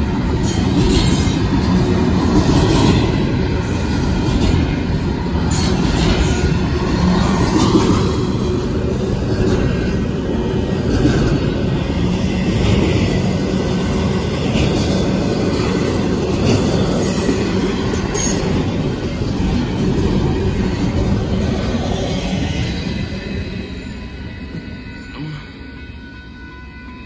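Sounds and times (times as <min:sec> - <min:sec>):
train wheels rumbling on rail: 0:00.0 - 0:26.4.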